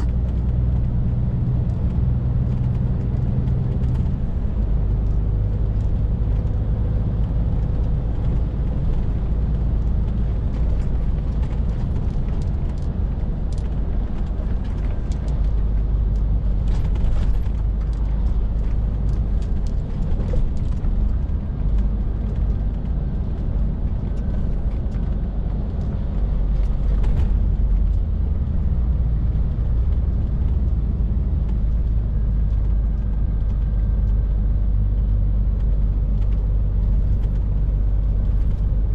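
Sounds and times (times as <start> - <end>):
lorry diesel engine drone: 0.0 - 38.9
road and tyre noise: 0.0 - 38.9.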